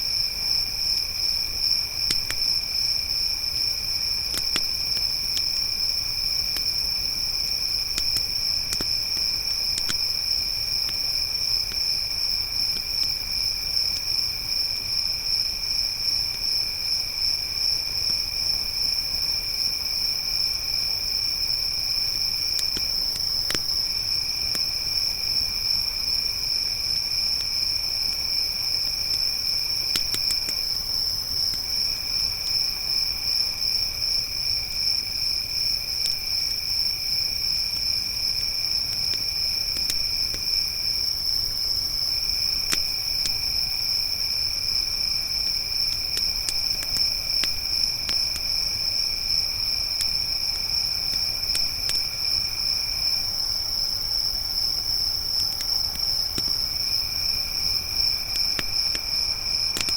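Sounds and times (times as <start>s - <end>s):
campfire crackling: 0.0s - 59.9s
crickets chirping: 0.0s - 59.9s.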